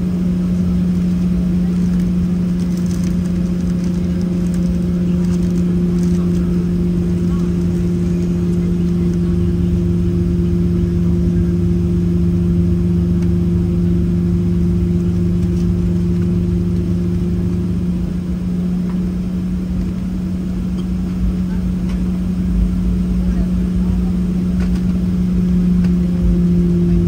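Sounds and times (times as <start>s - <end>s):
cabin air running: 0.0s - 27.0s
jet engines idling: 0.0s - 27.0s.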